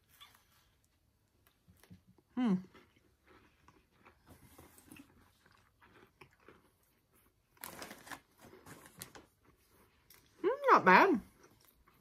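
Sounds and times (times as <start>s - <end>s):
cookie chewing: 0.1s - 12.0s.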